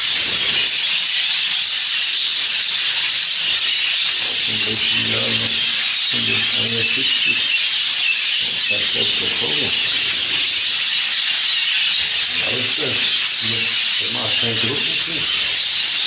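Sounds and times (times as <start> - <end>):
flock of budgerigars chattering: 0.0 - 16.0.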